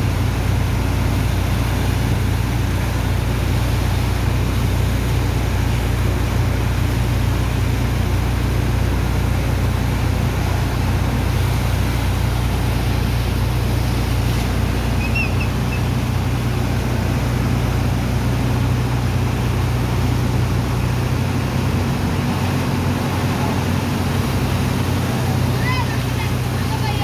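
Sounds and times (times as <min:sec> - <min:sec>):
dredger engine and pump humming: 0:00.0 - 0:27.0
water and sand rushing: 0:00.0 - 0:27.0.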